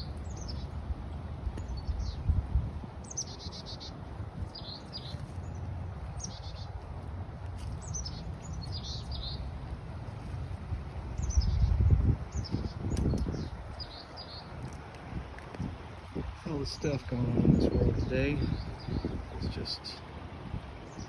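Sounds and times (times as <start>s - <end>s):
songbirds singing trills: 0.0s - 21.0s
wind rumble on microphone: 0.0s - 21.0s.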